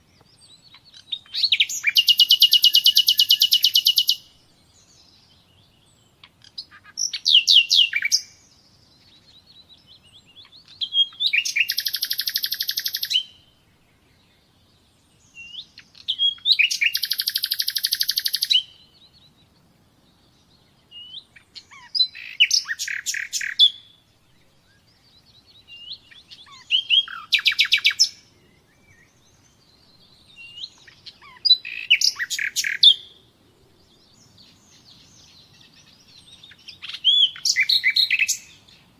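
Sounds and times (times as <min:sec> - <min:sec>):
songbird trills and chirps: 0:00.0 - 0:38.9.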